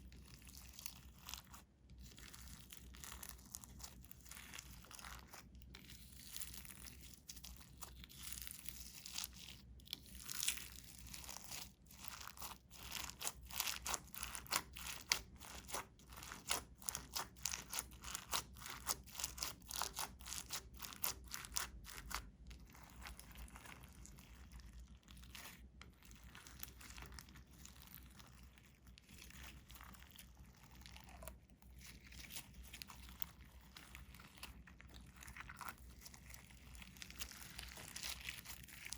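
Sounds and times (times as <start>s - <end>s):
slime crackling and popping: 0.2s - 38.9s.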